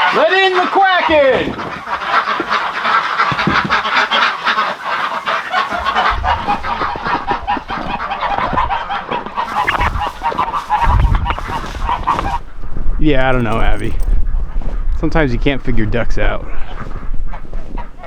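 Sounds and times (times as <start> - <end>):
ducks quacking and geese honking: 0.0 - 14.5.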